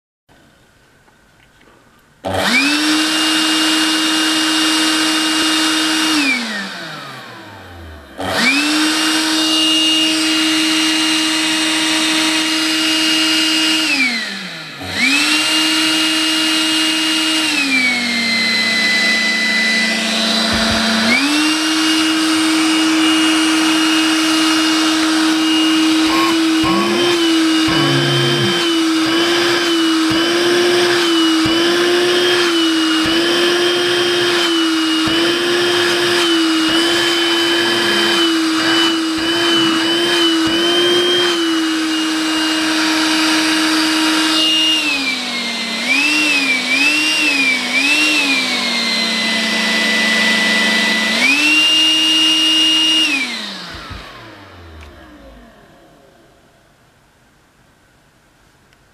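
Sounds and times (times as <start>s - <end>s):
handheld vacuum motor whine: 2.2s - 56.6s.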